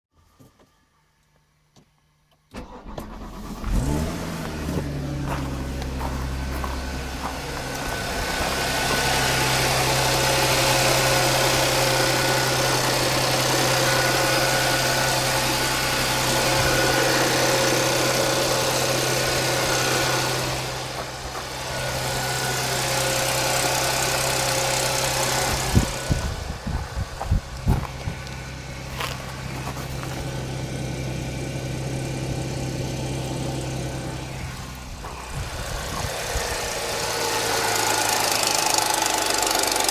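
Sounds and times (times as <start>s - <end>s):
car engine cranking and starting: 2.3s - 39.9s
car engine idling: 2.5s - 39.9s.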